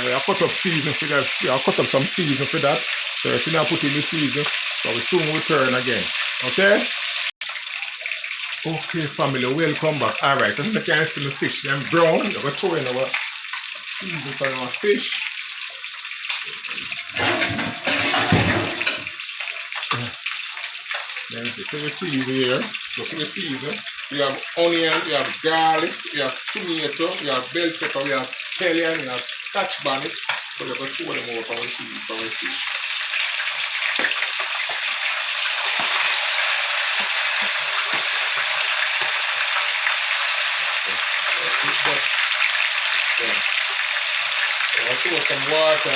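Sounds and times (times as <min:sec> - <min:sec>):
fish sizzling in hot oil: 0:00.0 - 0:45.9.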